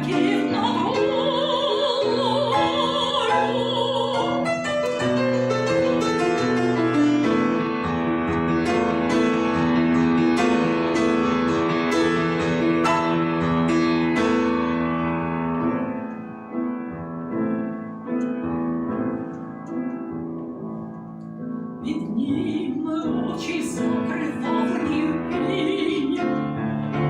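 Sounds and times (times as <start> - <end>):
piano playing chords: 0.0 - 27.0.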